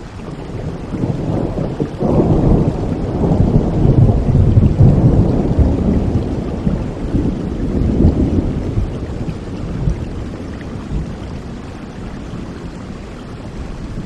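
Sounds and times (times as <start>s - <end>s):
steady rain: 0.0s - 14.0s
thunder clap and rumble: 0.3s - 14.0s.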